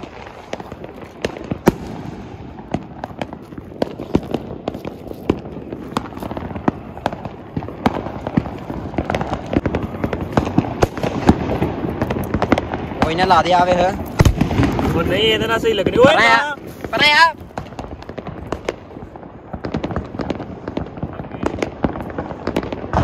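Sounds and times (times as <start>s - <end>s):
firecrackers banging and popping: 0.0s - 23.0s.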